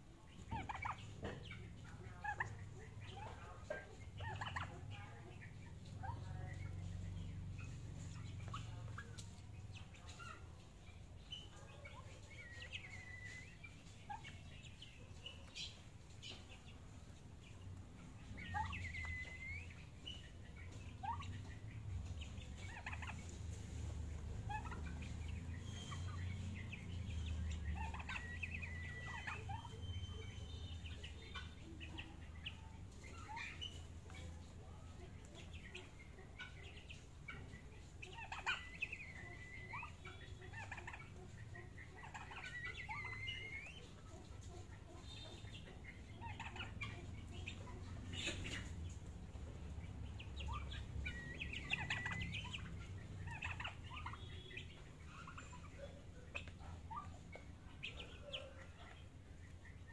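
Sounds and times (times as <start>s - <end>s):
young turkeys peeping: 0.0s - 59.9s.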